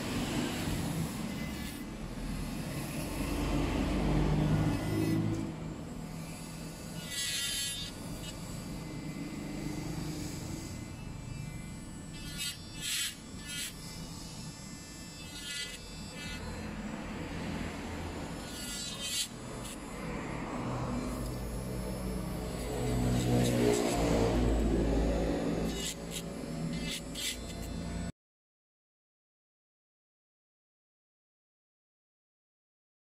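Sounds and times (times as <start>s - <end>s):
electric nail drill running: 0.0s - 28.1s
high-pitched whines: 0.0s - 28.1s.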